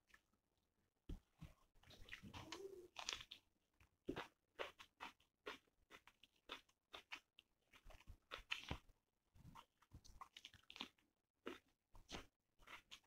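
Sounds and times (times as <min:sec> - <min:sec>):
person chewing crunchy food: 0:01.8 - 0:13.0.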